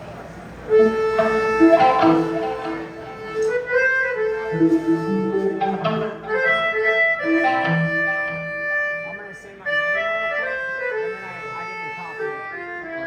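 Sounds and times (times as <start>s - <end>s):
melodica playing reedy notes: 0.7s - 13.0s.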